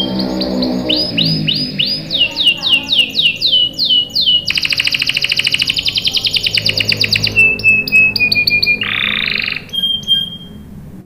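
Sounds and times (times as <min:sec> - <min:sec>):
canary singing: 0:00.0 - 0:10.8.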